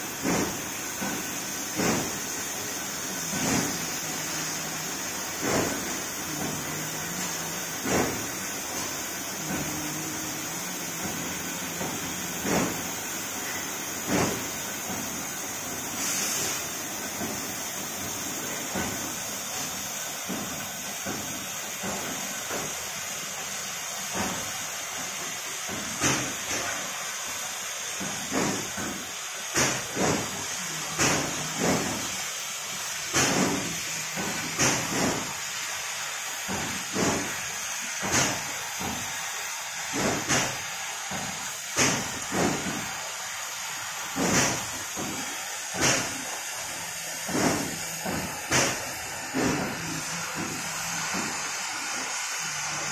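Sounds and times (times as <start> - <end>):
cutting torch hissing: 0.0 - 52.9.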